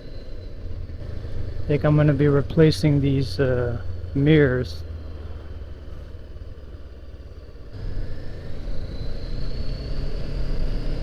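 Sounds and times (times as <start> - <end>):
faint rising whine: 0.0 - 11.0.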